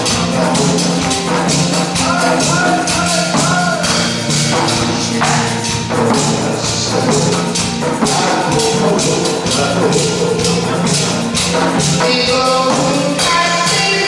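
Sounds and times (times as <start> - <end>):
hourglass drum beaten: 0.0 - 14.0
upbeat backing music: 0.0 - 14.0.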